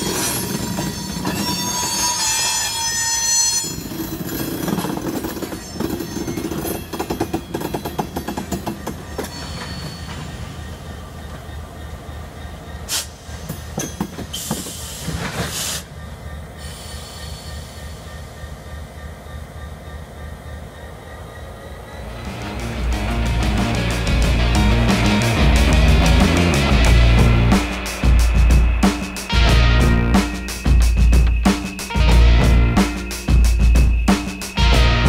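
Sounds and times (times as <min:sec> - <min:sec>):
train wheels clicking over rail joints: 0:00.0 - 0:29.3
diesel locomotive engine hum: 0:00.0 - 0:35.0
railcar clanks: 0:00.0 - 0:35.0.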